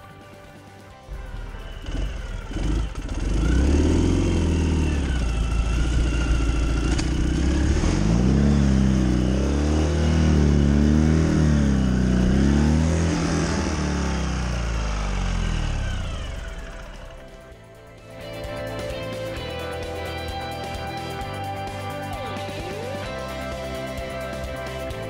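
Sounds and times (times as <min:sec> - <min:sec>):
motorcycle engine revving: 0:01.0 - 0:25.0.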